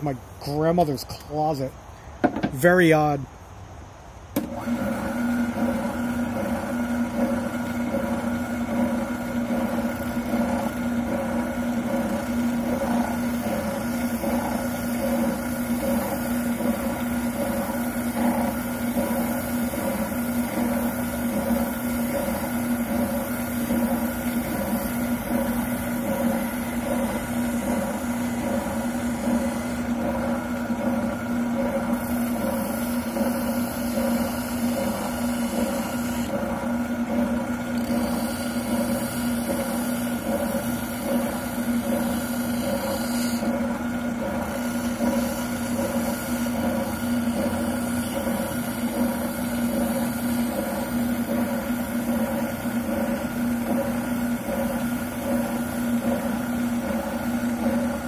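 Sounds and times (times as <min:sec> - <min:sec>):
oscillating sander running: 0:04.4 - 0:58.0.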